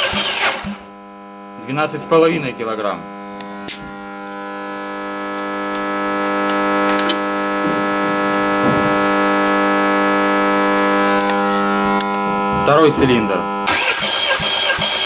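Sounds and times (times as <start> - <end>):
droning tone with overtones: 0.8 - 13.7.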